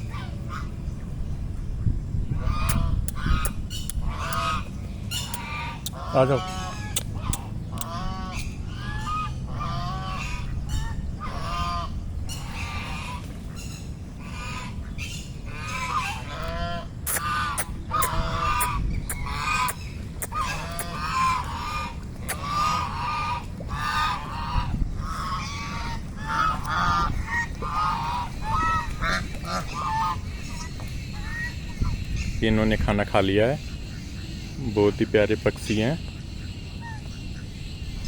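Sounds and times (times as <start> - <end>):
waterfowl flock calling: 0.0 - 0.8, 2.3 - 38.0.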